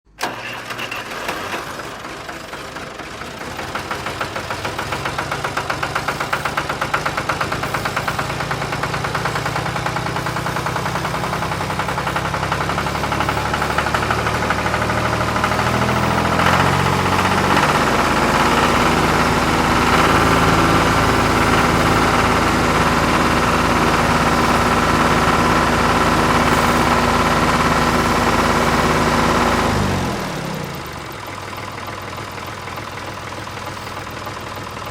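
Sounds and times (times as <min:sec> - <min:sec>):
model engine knocking: 0:00.2 - 0:34.9.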